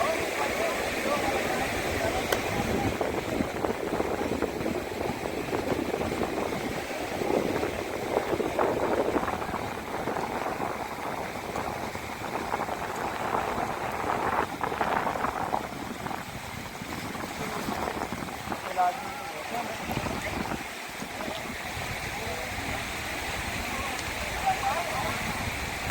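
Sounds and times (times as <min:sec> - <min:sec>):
water splashing along boat hull: 0:00.0 - 0:25.9.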